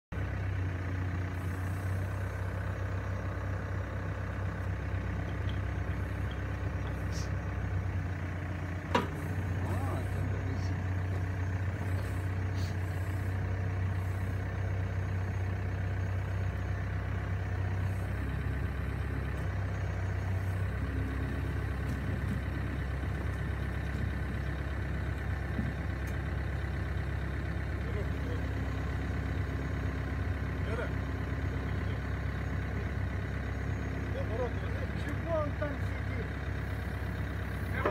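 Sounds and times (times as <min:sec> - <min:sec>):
diesel engine low hum: 0:00.0 - 0:37.9.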